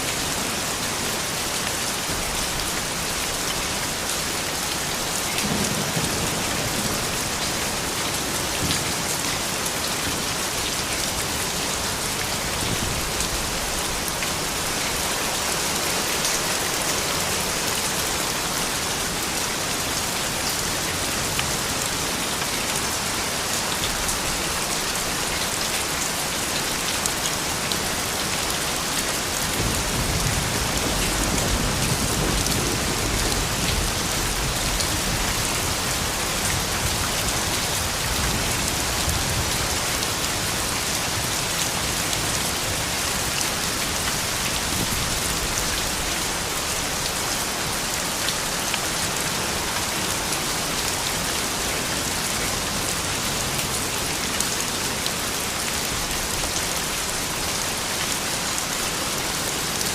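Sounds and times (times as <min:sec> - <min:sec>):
soft rain falling: 0:00.0 - 0:59.9.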